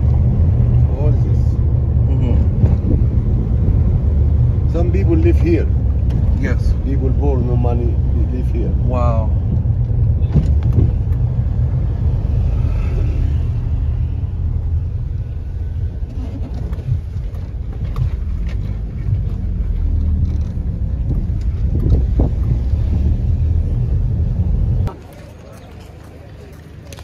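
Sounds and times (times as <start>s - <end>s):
car driving low rumble: 0.0s - 27.0s.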